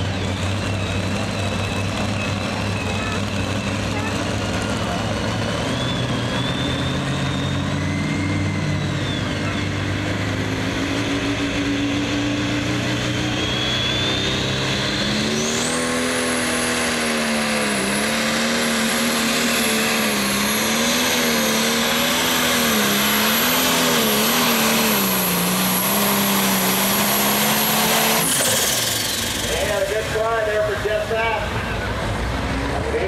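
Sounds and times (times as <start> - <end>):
diesel tractor engine at full throttle: 0.0 - 33.0
high turbocharger whine: 0.0 - 33.0.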